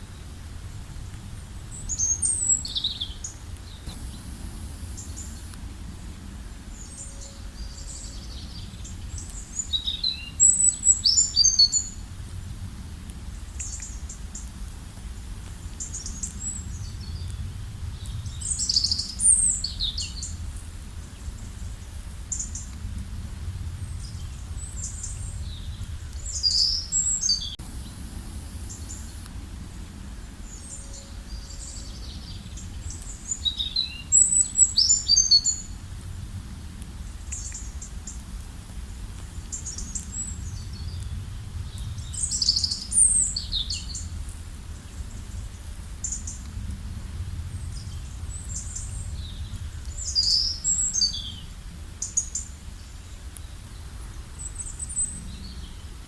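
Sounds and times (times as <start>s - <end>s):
steady low rumble: 0.0s - 56.0s
small birds chirping: 1.7s - 12.0s, 15.7s - 22.7s, 23.8s - 35.8s, 39.3s - 46.4s, 47.6s - 56.0s.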